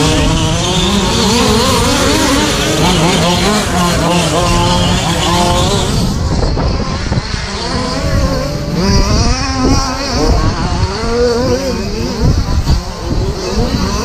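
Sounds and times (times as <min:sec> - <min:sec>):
toy truck motors whining: 0:00.0 - 0:14.0
wind rumble on microphone: 0:00.0 - 0:14.0.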